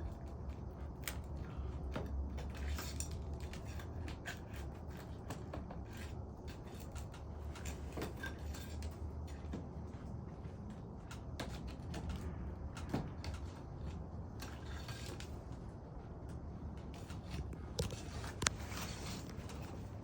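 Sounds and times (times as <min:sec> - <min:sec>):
roof shingles scraping and clicking: 0:00.0 - 0:09.4, 0:11.0 - 0:15.7, 0:16.3 - 0:20.0.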